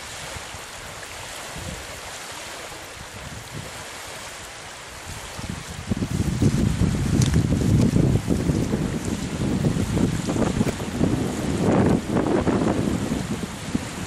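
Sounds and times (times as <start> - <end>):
wind gusting on microphone: 0.0 - 14.0.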